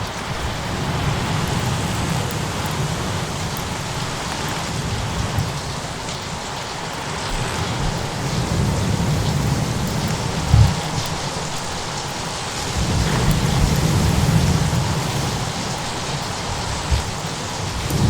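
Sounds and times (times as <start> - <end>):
fireplace crackling: 0.0 - 18.0
low rolling thunder: 0.0 - 18.0
rain rushing: 0.0 - 18.0.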